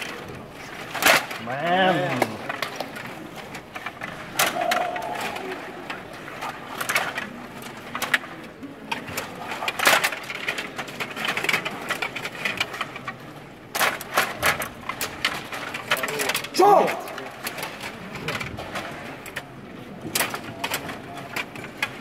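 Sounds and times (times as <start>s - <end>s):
puck clacking on plastic players: 0.0s - 22.0s.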